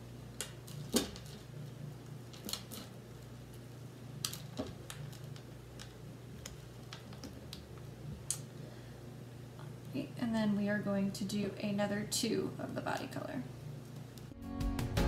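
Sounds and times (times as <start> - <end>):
low steady hum: 0.0 - 14.4.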